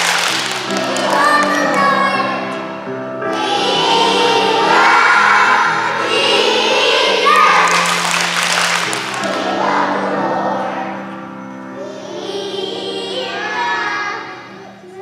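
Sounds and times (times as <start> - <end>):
children's choir singing: 0.0 - 15.0
instrumental accompaniment: 0.0 - 15.0.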